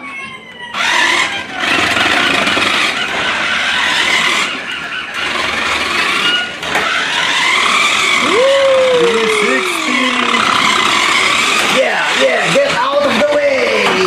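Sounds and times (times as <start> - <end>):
toy car electric motor whine: 0.0 - 14.0.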